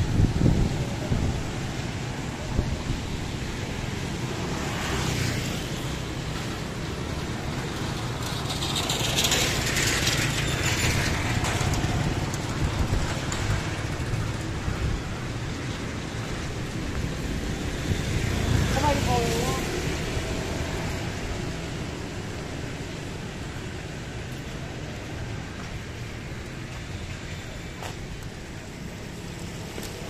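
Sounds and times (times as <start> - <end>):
low traffic engine rumble: 5.6 - 30.0.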